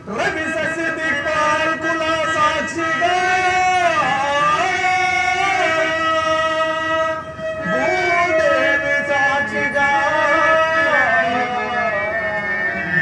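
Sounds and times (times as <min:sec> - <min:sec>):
steady drone: 0:00.0 - 0:13.0.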